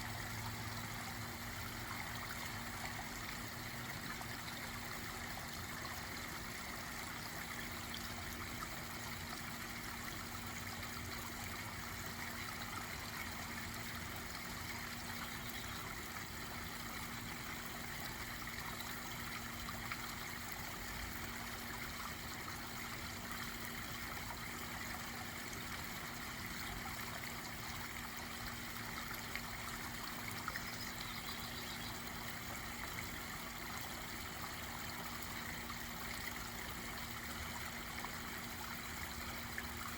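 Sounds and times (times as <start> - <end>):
faint steady hum: 0.0 - 39.9
water running over small waterfall: 0.0 - 39.9.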